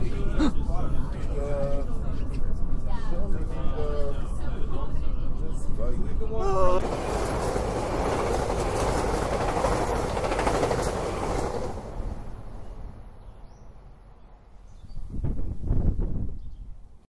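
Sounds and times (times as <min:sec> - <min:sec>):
commuter train rumbling: 0:00.0 - 0:16.7.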